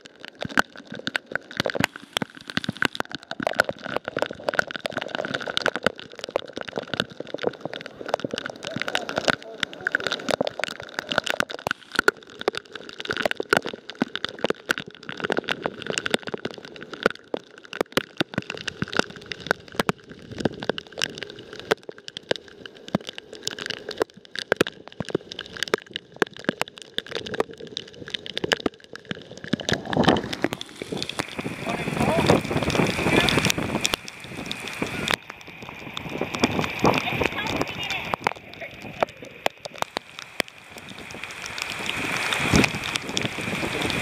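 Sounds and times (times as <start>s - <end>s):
heavy rain on boat deck: 0.0s - 44.0s.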